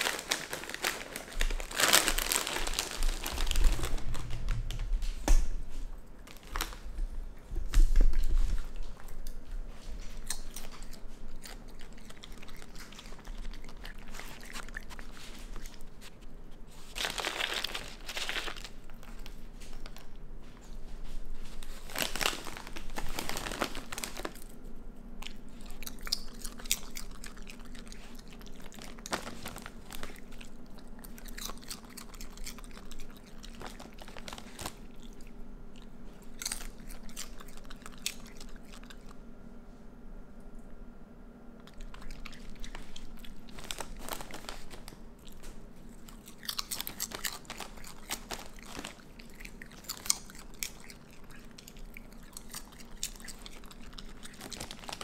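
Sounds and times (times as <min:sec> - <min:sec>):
animal crunching snacks: 0:00.0 - 0:04.8, 0:06.2 - 0:20.8, 0:21.4 - 0:24.6, 0:25.2 - 0:39.2, 0:41.6 - 0:55.0
faint steady hum: 0:00.0 - 0:55.0.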